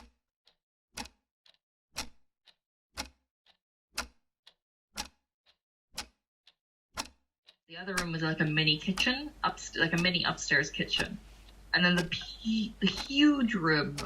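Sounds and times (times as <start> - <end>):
grandfather clock ticking: 0.0 - 14.0.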